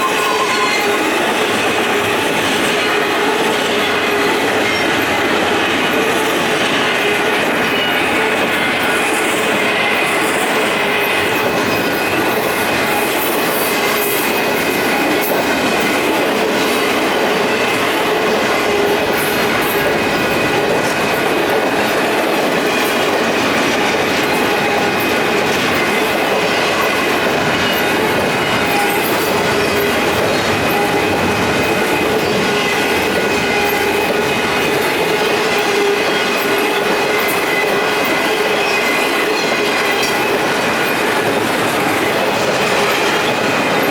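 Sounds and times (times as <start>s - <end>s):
steel wheels rolling on rail: 0.0s - 43.9s.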